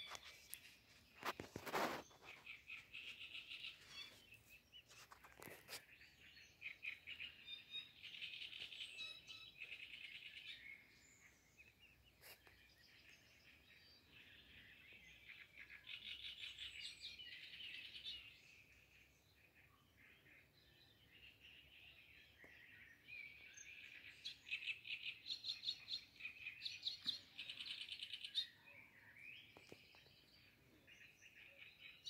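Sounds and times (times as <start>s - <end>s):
songbird singing: 0.0s - 32.0s.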